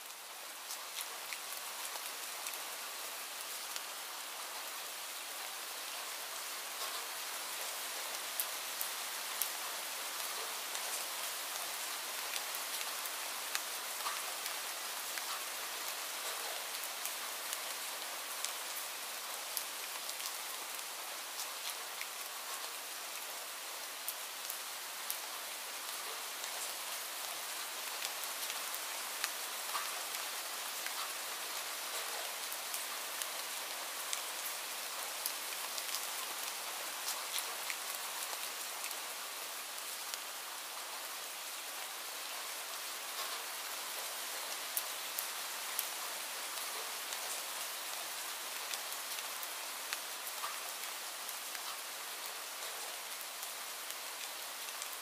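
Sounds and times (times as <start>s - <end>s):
rain falling on shrubs: 0.0s - 55.0s.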